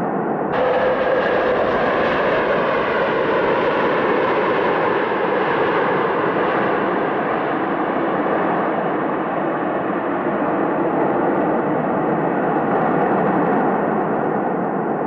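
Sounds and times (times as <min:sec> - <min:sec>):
jet engines running: 0:00.5 - 0:13.0.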